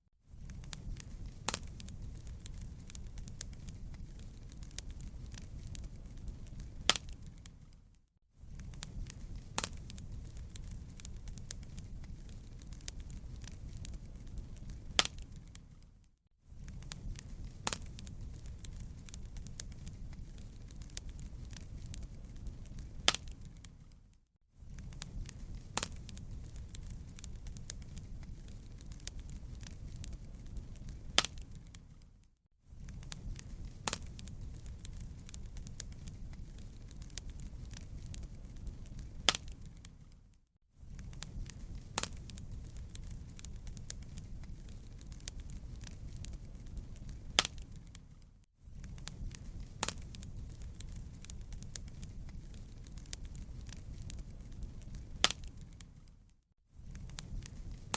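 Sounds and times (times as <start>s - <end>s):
fire popping: 0.3s - 57.9s
wood fire crackling: 0.3s - 57.9s.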